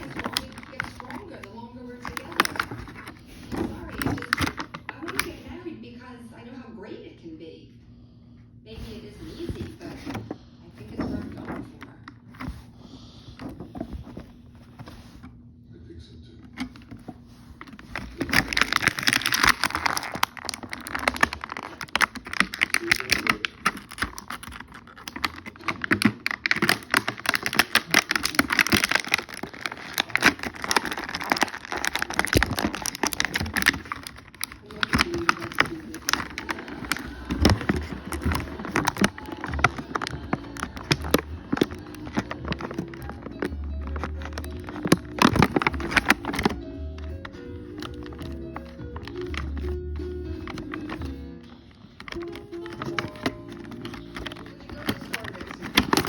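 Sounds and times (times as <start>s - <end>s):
plastic packaging crinkling: 0.0s - 5.6s, 8.8s - 15.3s, 16.6s - 56.0s.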